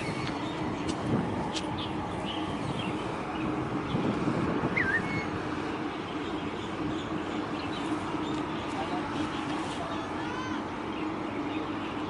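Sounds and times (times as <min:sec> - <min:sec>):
wind noise: 0:00.0 - 0:09.7
low hum and rumble: 0:00.0 - 0:12.0.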